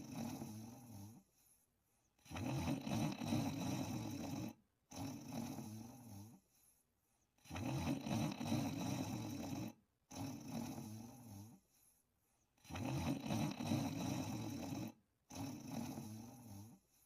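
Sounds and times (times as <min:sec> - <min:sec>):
person snoring: 0:00.0 - 0:01.3, 0:02.2 - 0:06.4, 0:07.4 - 0:11.6, 0:12.6 - 0:16.9.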